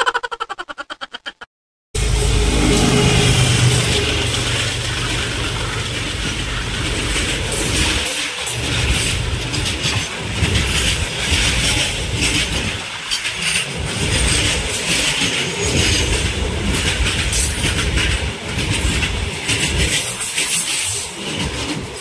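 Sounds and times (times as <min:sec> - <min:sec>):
steel wheels rumbling on rails: 0:02.0 - 0:22.0
wheels clacking over rail joints: 0:02.6 - 0:22.0.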